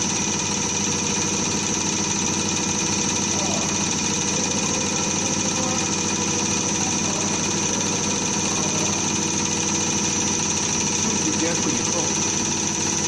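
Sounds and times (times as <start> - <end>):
test bench motor whine: 0.0 - 13.0.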